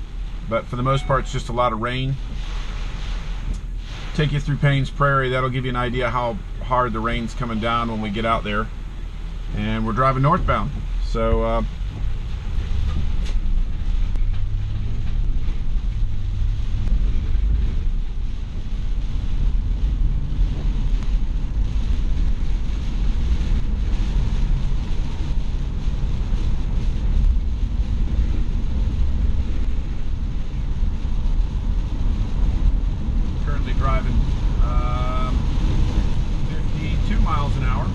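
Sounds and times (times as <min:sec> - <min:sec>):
rain and wind hiss: 0:00.0 - 0:37.9
tyres rumbling on wet road: 0:00.0 - 0:37.9.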